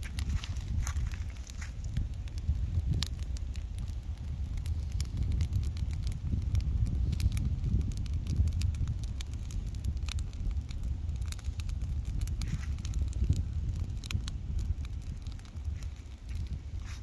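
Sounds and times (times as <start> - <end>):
burning leaves crackling: 0.0 - 17.0
low fire rumble: 0.0 - 17.0.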